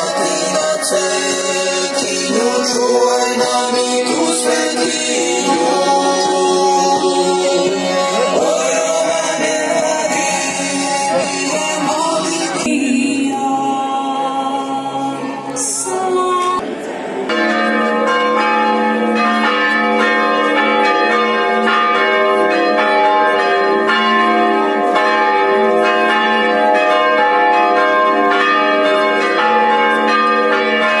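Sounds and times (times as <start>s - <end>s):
church bells ringing: 0.0s - 12.8s, 17.1s - 31.0s.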